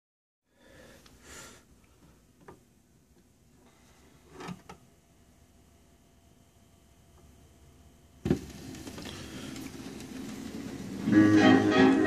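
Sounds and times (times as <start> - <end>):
faint steady hum: 0.5 - 12.0.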